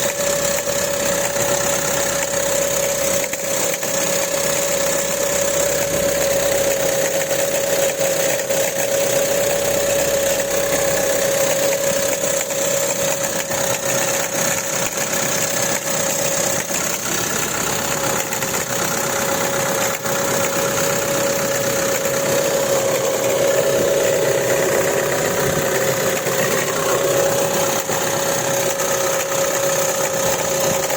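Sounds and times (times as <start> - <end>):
car engine idling with whine: 0.0 - 30.9
rapid engine knocking: 0.0 - 30.9.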